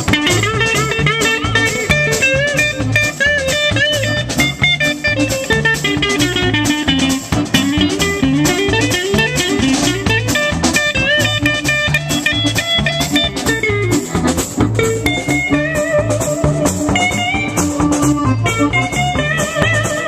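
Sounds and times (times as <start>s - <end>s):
bass line: 0.0s - 20.0s
blues guitar lead: 0.0s - 20.0s
drum kit beat: 0.0s - 20.0s.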